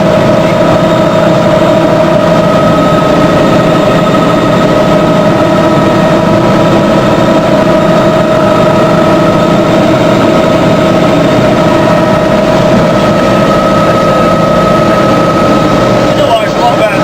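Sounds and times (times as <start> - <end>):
helicopter engine and rotors: 0.0 - 17.0.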